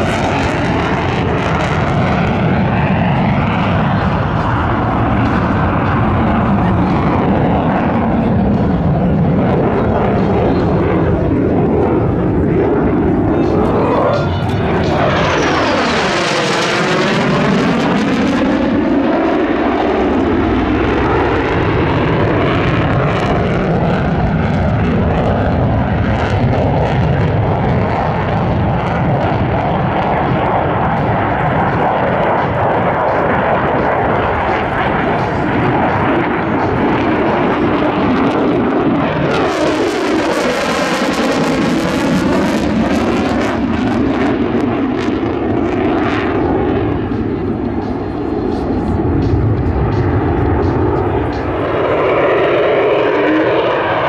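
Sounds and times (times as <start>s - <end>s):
crackling jet engine: 0.0s - 54.0s
jet engine roar: 0.0s - 54.0s.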